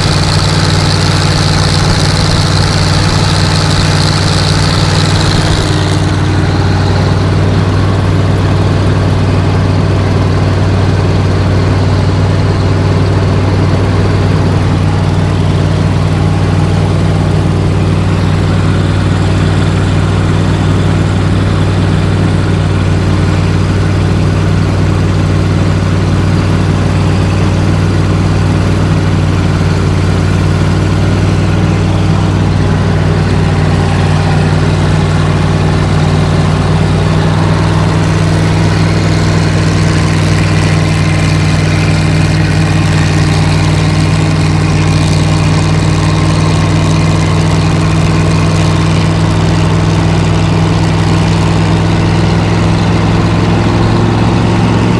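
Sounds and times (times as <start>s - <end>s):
farm machine engine running: 0.0s - 54.9s.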